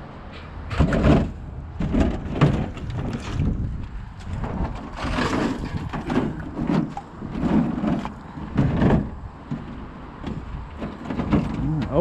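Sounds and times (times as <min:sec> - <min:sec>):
junk scraping and knocking: 0:00.3 - 0:12.0
wind rumble on microphone: 0:00.6 - 0:12.0.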